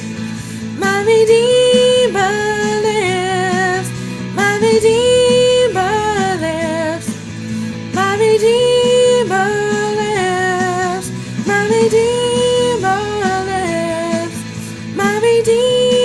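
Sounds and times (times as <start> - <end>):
instrumental backing music: 0.0 - 16.0
woman singing: 0.6 - 7.3, 7.9 - 16.0.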